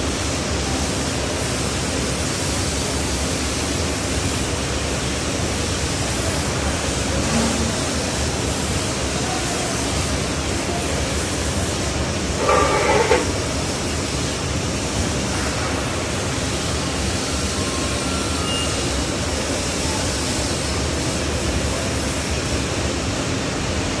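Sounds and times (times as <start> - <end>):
workshop machinery rushing noise: 0.6 - 22.6.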